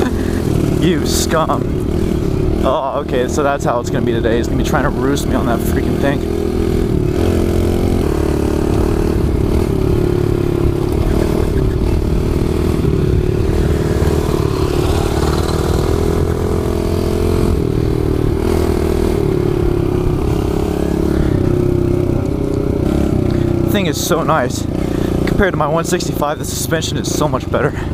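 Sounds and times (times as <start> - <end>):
motorbike engine running: 0.0 - 27.9.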